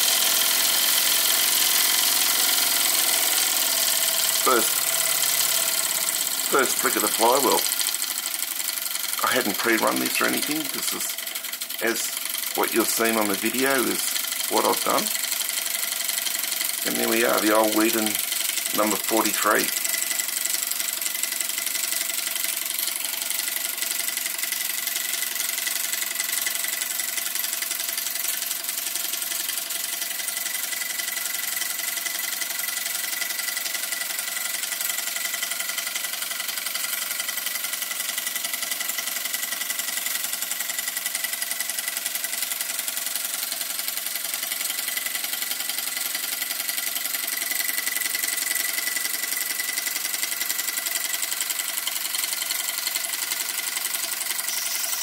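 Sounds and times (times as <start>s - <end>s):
toy steam engine chuffing: 0.0s - 55.0s.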